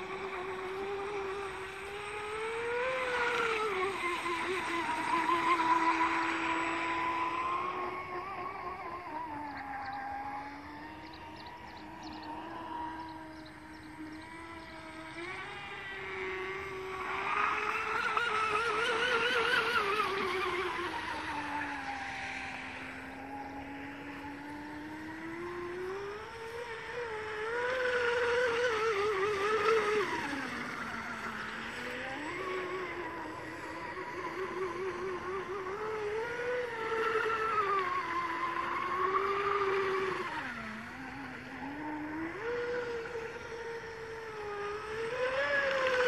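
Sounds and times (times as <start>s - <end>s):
electric boat motor whining: 0.0s - 46.0s.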